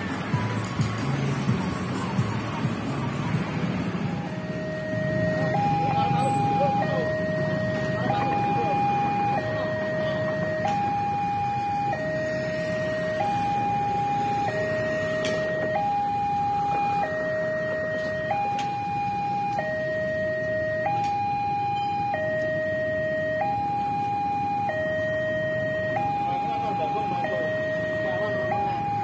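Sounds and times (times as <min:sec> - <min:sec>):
motorcycle traffic: 0:00.0 - 0:29.0
level crossing two-tone alarm: 0:04.1 - 0:29.0.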